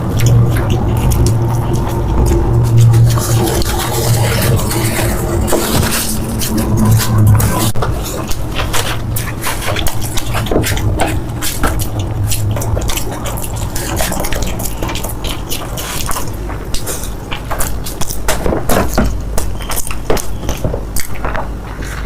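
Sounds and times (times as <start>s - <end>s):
wet chewing clicks and smacks: 0.0s - 22.0s.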